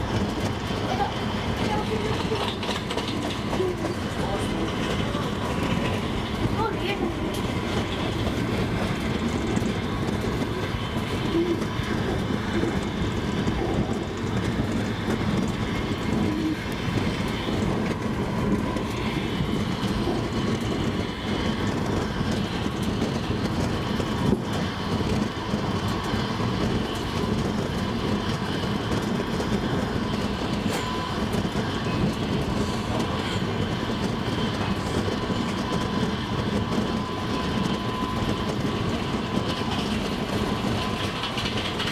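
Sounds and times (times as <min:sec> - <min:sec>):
train rumbling on rails: 0:00.0 - 0:41.9
wheels clacking over track: 0:00.0 - 0:41.9.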